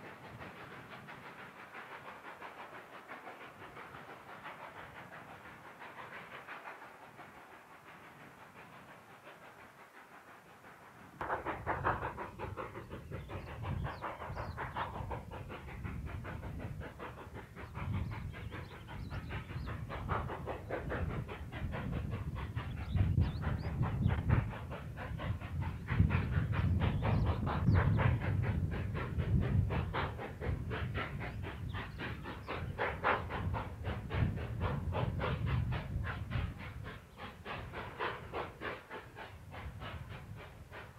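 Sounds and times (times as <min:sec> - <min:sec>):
low rumble of train: 0:00.0 - 0:40.9
steam locomotive chuffing: 0:00.0 - 0:40.9.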